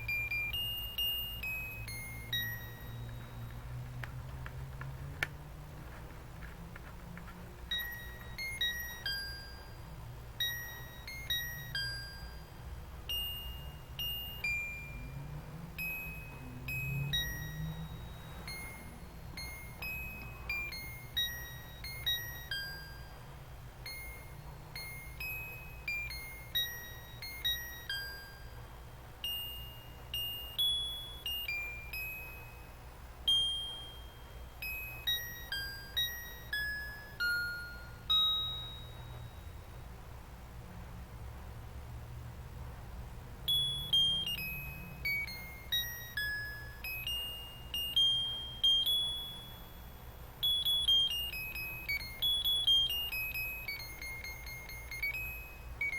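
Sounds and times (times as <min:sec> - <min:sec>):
low steady hum: 0:00.0 - 0:55.9
tinkling carol melody: 0:00.0 - 0:55.9.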